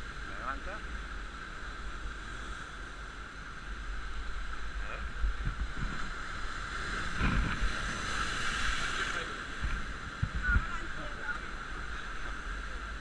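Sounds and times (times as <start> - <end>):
surf washing over rocks: 0.0 - 13.0
wind rumbling on microphone: 0.0 - 13.0.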